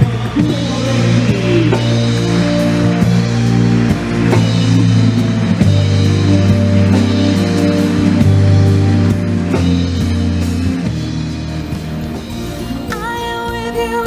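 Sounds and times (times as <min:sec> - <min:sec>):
bass guitar low notes: 0:00.0 - 0:13.0
band music with drums and guitar: 0:00.0 - 0:14.0.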